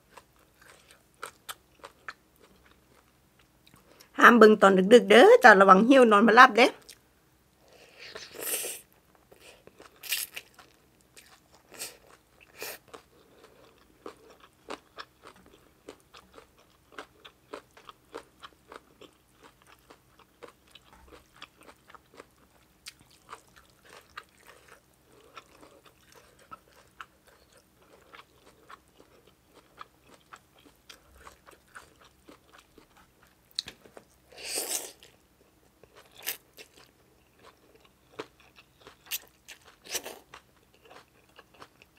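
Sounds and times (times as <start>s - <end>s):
person chewing food: 0.0s - 4.1s, 7.6s - 41.9s.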